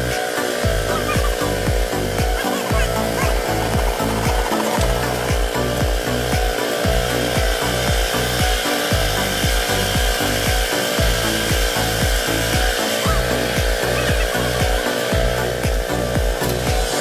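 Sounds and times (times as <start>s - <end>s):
background music with bass line: 0.0s - 17.0s.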